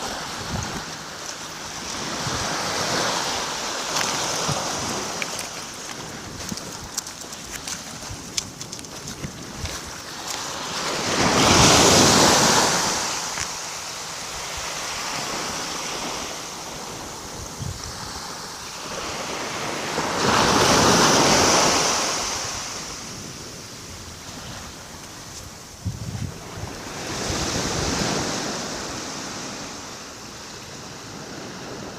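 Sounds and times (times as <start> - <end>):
small waves washing onto shore: 0.0 - 31.9.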